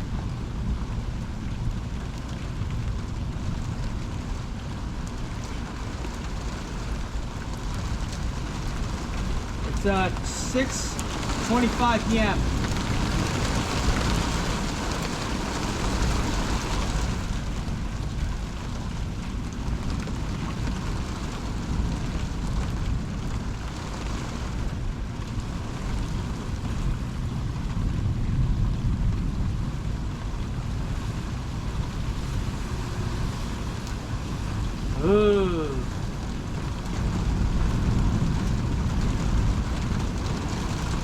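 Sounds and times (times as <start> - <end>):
rain falling: 0.0 - 41.0
wind rumbling on microphone: 0.0 - 41.0.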